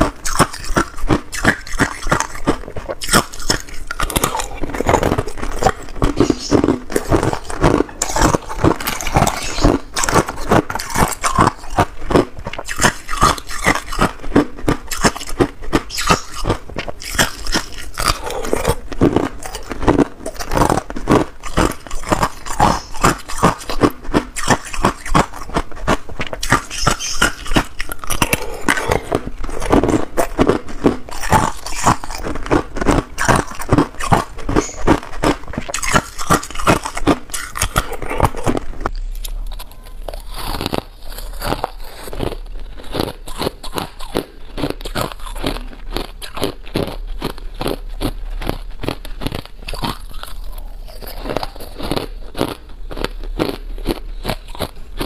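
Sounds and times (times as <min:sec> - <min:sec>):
ice cubes being chewed: 0:00.0 - 0:55.0.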